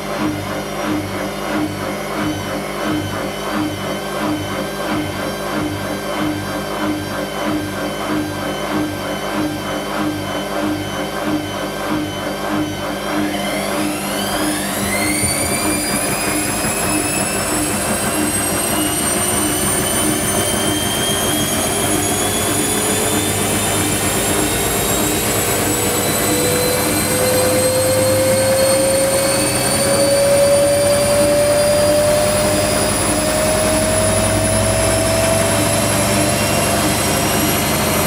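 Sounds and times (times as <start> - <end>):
washing machine motor whine rising: 0.0 - 38.0
washing machine drum spinning: 0.1 - 30.0, 32.6 - 38.0.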